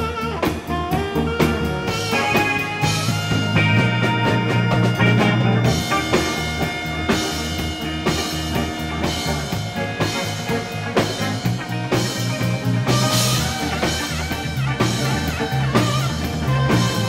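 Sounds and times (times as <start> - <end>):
alto saxophone: 0.0 - 17.0
drums keeping steady beat: 0.0 - 17.0
instrumental jazz band: 0.0 - 17.0.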